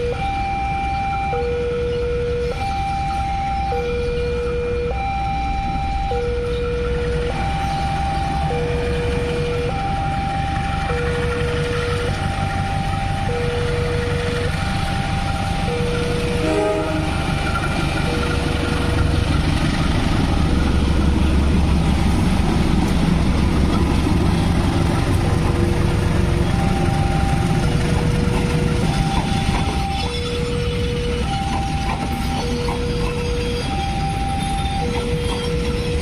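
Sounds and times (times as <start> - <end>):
crossing alarm two-note tone: 0.0 - 22.9, 25.1 - 36.0
locomotive engine rumbling: 0.0 - 36.0
train coaches rolling on rails: 0.0 - 36.0.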